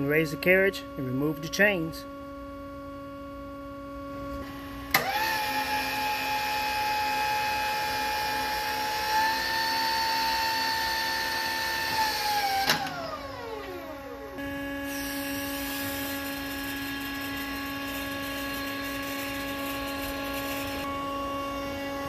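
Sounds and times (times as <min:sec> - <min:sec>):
hydraulic pump motor whine: 0:00.0 - 0:22.0.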